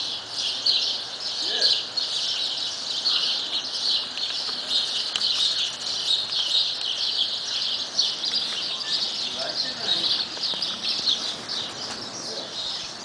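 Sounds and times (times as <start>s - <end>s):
high-pitched chirping chorus: 0.0s - 13.0s.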